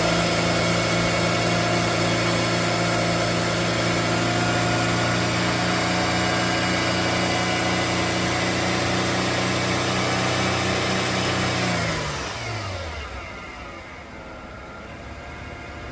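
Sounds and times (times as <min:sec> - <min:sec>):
car engine idling: 0:00.0 - 0:09.9, 0:10.5 - 0:15.9
engine spinning down: 0:00.0 - 0:15.9.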